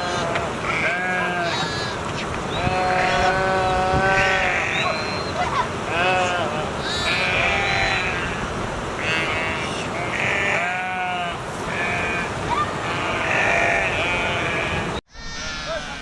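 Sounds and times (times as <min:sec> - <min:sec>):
sheep bleating: 0:00.0 - 0:05.3, 0:05.9 - 0:16.0.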